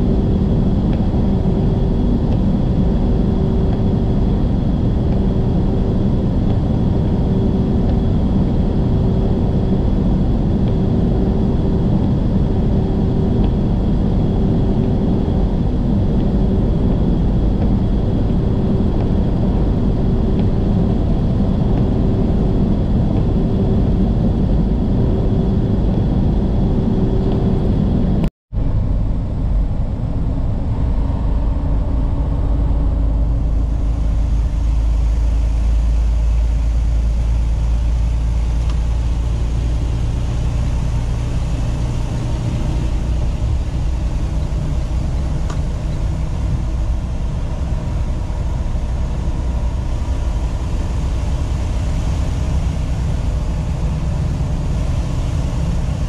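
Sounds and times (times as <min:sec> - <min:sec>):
pulsing low hum: 0:00.0 - 0:56.0
truck engine and road noise: 0:00.0 - 0:56.0.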